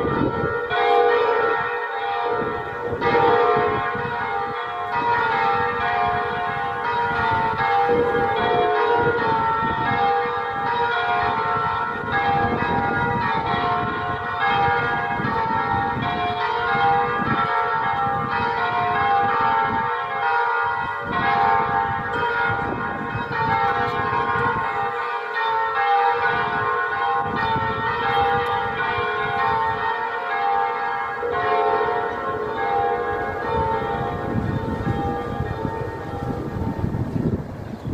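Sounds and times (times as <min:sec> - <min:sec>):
electronic church bells pealing: 0:00.0 - 0:37.7.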